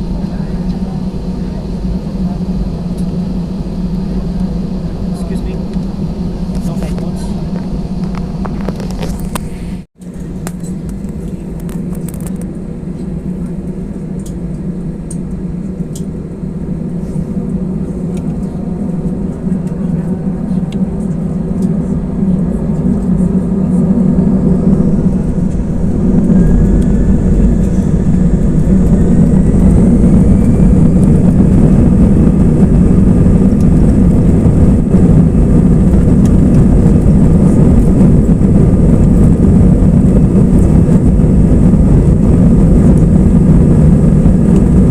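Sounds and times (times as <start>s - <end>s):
jet engines spooling up: 0.0s - 44.9s.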